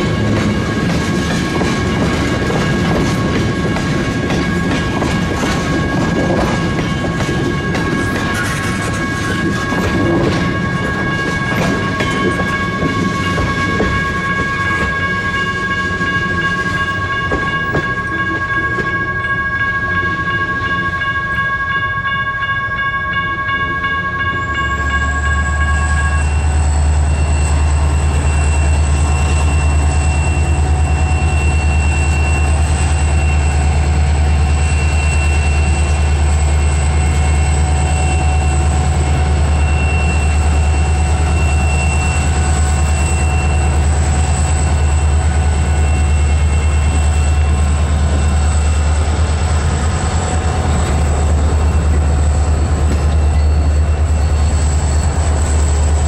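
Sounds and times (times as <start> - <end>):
deep locomotive engine rumble: 0.0 - 56.0.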